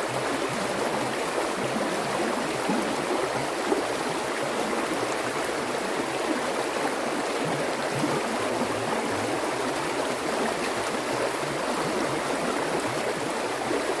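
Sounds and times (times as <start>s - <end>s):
stream water burbling: 0.0s - 14.0s.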